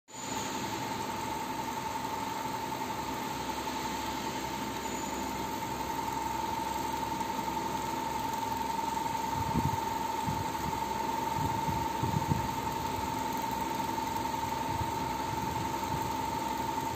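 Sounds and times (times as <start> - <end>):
machine hum with high whine: 0.1 - 16.9.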